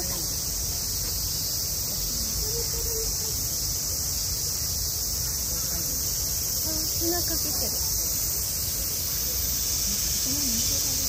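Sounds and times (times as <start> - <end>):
cicadas chorus: 0.0 - 11.0
faint voices of people: 0.0 - 11.0.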